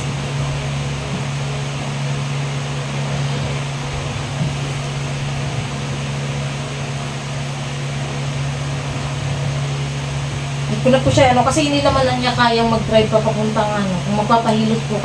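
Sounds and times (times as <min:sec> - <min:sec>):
electric fan motor hum: 0:00.0 - 0:15.0.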